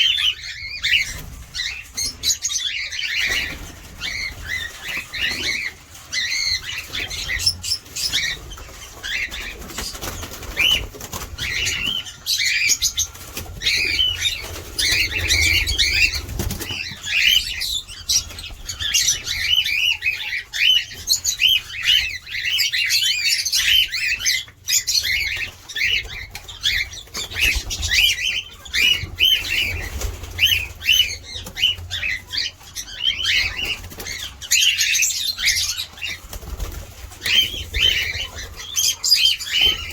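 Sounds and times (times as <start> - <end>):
cockatiels chattering: 0.0 - 39.9.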